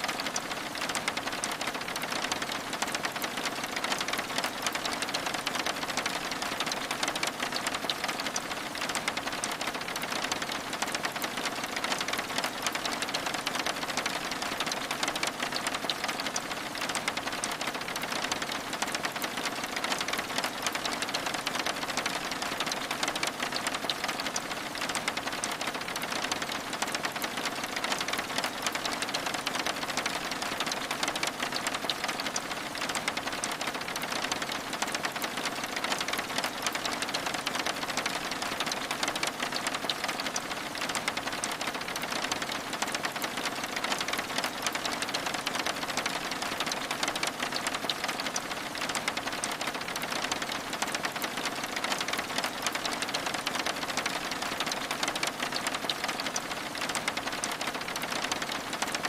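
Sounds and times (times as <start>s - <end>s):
rain pattering on a window: 0.0s - 59.0s.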